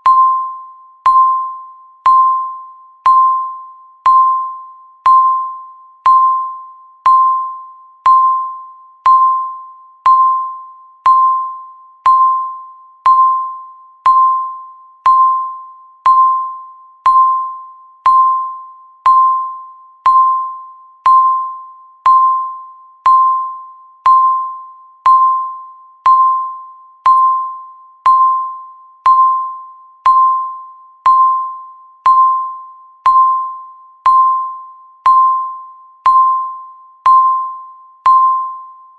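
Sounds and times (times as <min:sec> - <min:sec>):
countdown timer beeping: 0:00.0 - 0:38.8.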